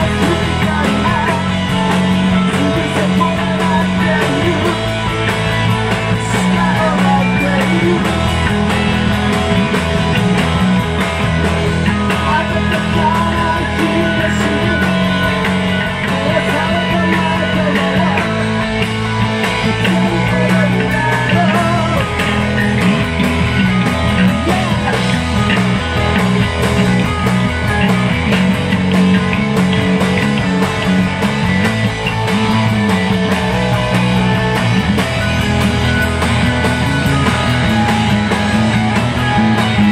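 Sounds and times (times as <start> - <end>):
drums: 0.0 - 39.9
electric bass: 0.0 - 39.9
rock band playing live: 0.0 - 39.9.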